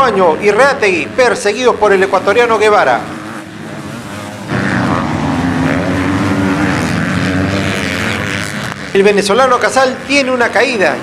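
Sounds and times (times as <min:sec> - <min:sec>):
motocross bike engines droning: 0:00.0 - 0:11.0.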